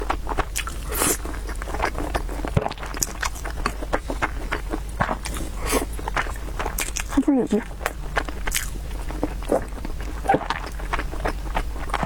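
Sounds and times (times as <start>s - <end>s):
chewing and mouth noises: 0.0s - 12.0s.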